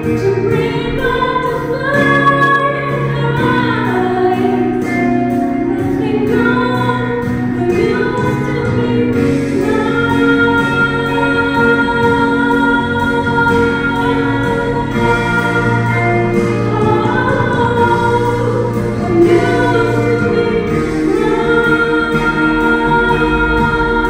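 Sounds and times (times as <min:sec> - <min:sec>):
sustained instrumental accompaniment: 0:00.0 - 0:24.0
woman singing into microphone: 0:00.0 - 0:24.0.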